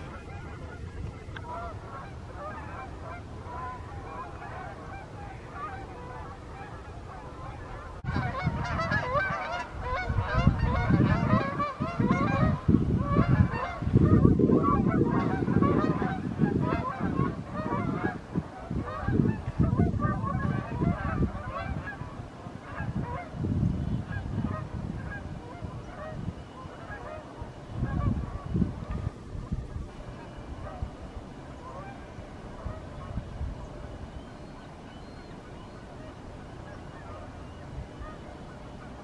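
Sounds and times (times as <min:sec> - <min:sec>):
geese honking: 0:00.0 - 0:39.0.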